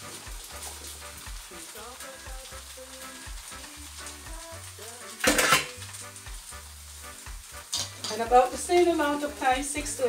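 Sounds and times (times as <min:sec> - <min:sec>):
potato frying in a pan: 0:00.0 - 0:10.0.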